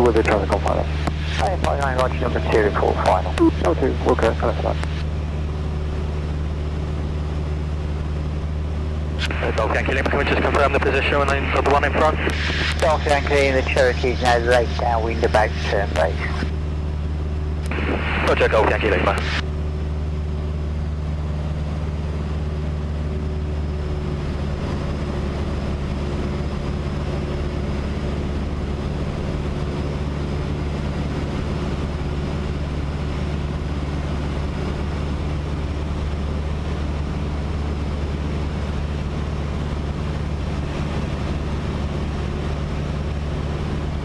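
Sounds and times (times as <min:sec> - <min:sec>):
light aircraft engine droning: 0:00.0 - 0:44.0.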